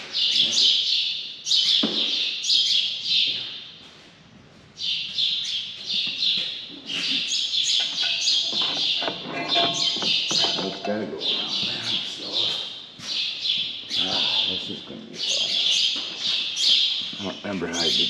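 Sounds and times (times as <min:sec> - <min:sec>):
small birds chirping: 0:00.0 - 0:03.8, 0:04.8 - 0:18.0.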